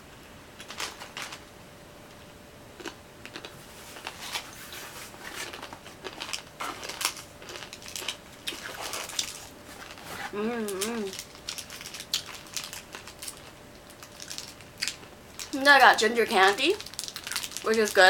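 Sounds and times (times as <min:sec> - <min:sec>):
plastic packaging crinkling: 0:03.3 - 0:18.0.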